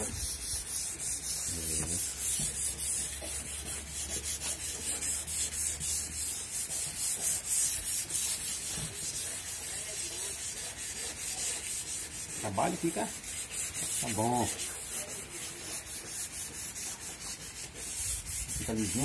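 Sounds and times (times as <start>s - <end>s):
sanding pad rubbing sheet metal: 0.0s - 19.0s.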